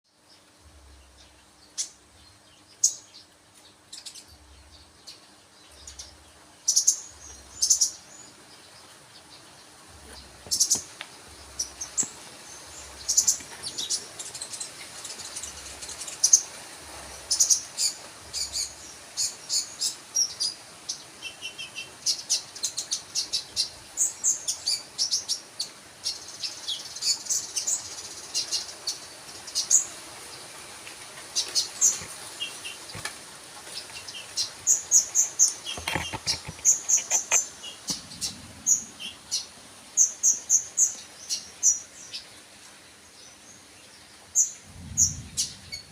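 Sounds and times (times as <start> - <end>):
songbird chirping and trilling: 0.1 - 30.6, 31.3 - 45.9.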